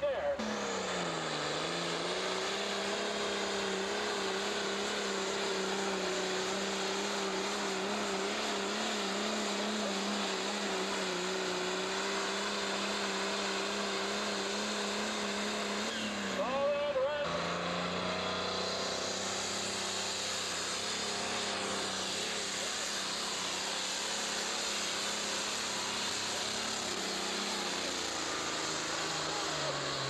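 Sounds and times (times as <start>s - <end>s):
tractor diesel engine at full load: 0.0s - 30.0s.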